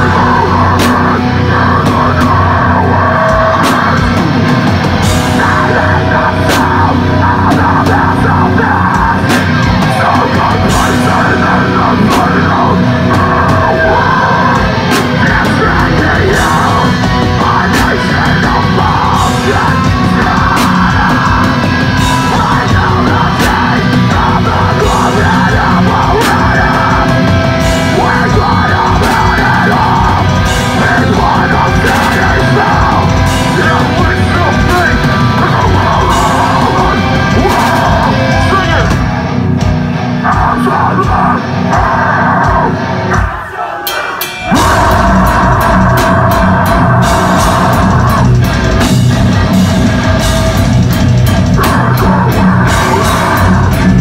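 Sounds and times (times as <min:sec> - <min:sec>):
distorted guitars: 0:00.0 - 0:54.0
harsh screamed vocals: 0:00.0 - 0:54.0
pounding drums: 0:00.0 - 0:54.0.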